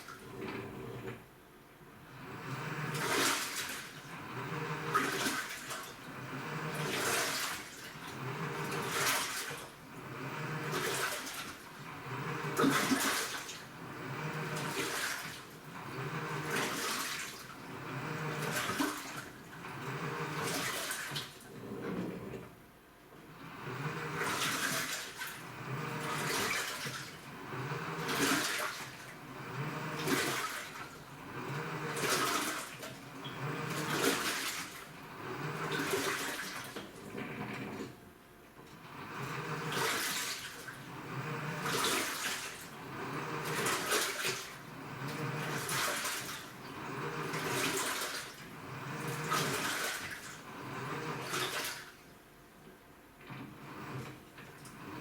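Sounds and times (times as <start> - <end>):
low motor hum: 0.0 - 20.6, 21.4 - 51.4
washing machine water swishing: 0.0 - 55.0.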